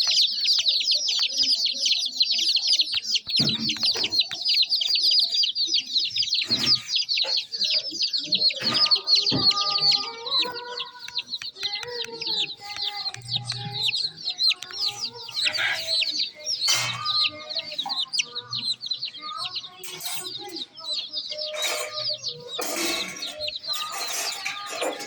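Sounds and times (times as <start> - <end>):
baby chicks peeping: 0.0 - 25.0.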